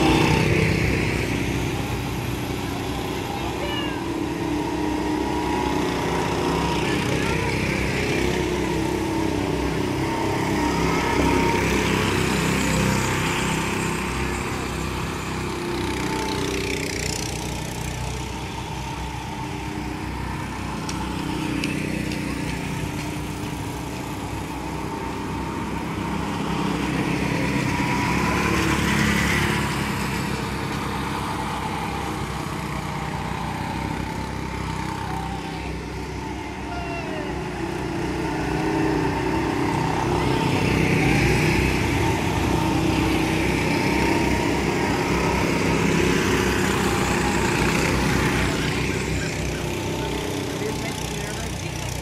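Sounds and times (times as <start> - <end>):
go-kart engines droning: 0.0 - 52.0.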